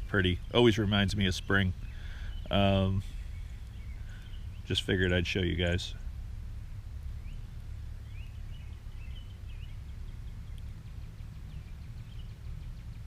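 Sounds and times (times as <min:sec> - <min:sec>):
faint bird chirps: 0:00.0 - 0:13.0
low outdoor rumble: 0:00.0 - 0:13.0.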